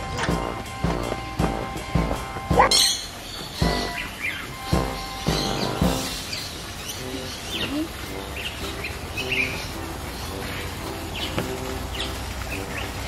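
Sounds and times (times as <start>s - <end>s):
birds chirping: 0.0s - 13.0s
soft background music: 0.0s - 13.0s.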